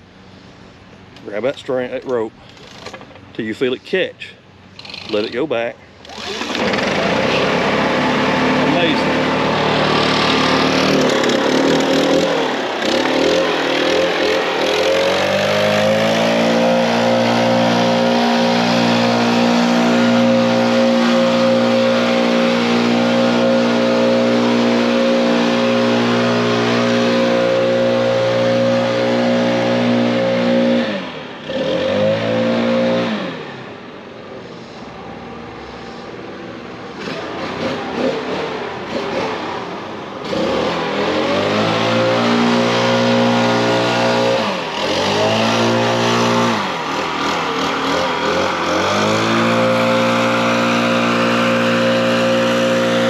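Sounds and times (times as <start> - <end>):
leaf blower engine running: 4.8 - 5.4, 6.0 - 33.8, 37.0 - 53.0.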